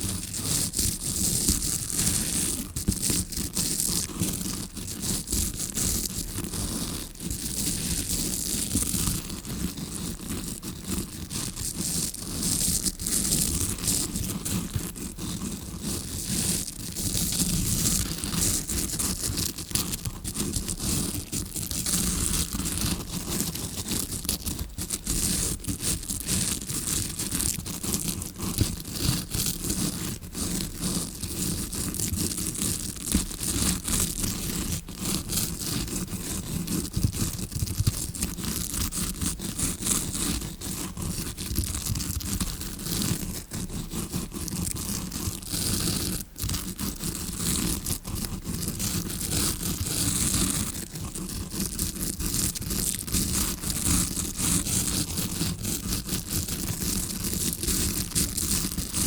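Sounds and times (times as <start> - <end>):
brush scratching against microphone: 0.0 - 59.0.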